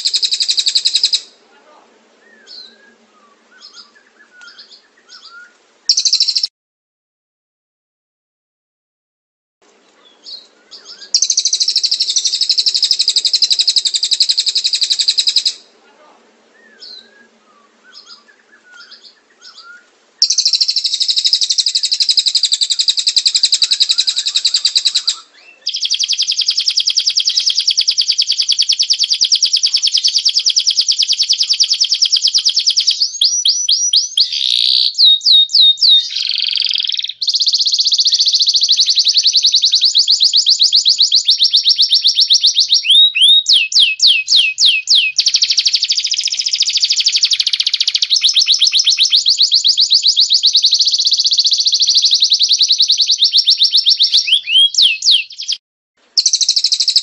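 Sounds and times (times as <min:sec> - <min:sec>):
bird trilling: 0:00.0 - 0:01.4, 0:02.2 - 0:06.5, 0:10.2 - 0:15.7, 0:16.6 - 0:55.6, 0:56.2 - 0:57.0
faint bird chirps: 0:00.0 - 0:06.5, 0:09.9 - 0:55.6, 0:56.2 - 0:57.0.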